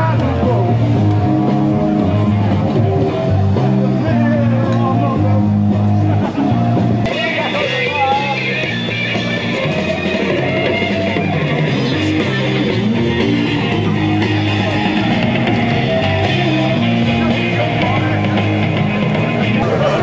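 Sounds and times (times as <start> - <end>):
rock music with guitar and bass: 0.0 - 20.0.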